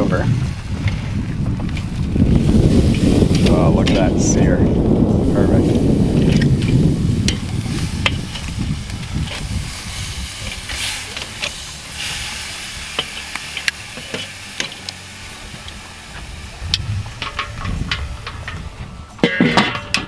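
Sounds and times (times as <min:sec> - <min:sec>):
meat sizzling over charcoal: 0:00.0 - 0:19.3
sharp pops and crackles: 0:00.0 - 0:20.0.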